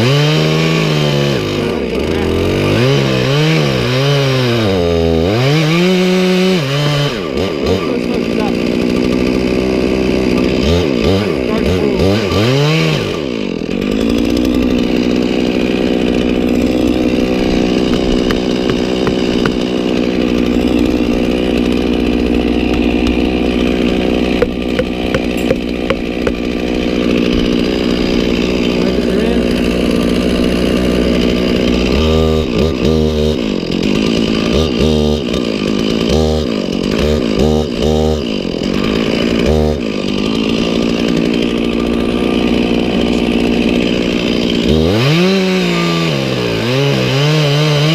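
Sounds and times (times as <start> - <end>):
chainsaw revving and cutting: 0.0 - 47.9.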